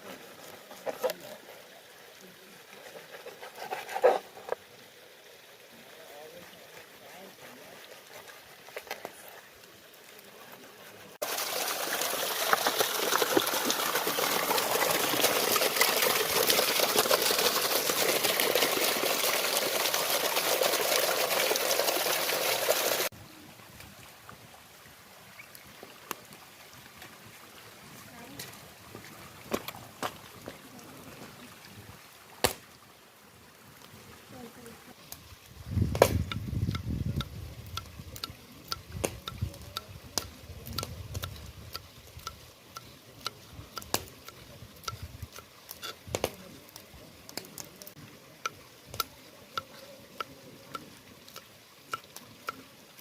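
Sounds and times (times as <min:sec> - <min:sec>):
running water: 0:00.0 - 0:53.0.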